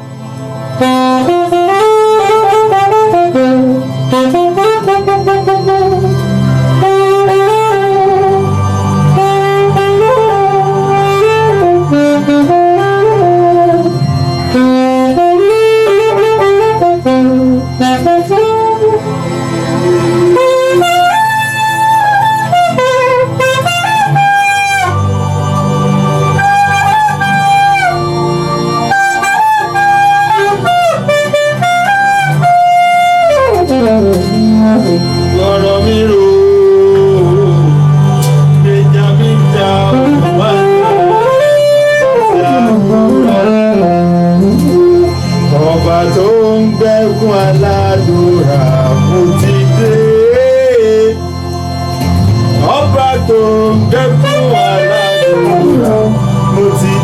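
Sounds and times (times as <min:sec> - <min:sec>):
band playing gospel music: 0:00.0 - 0:57.0.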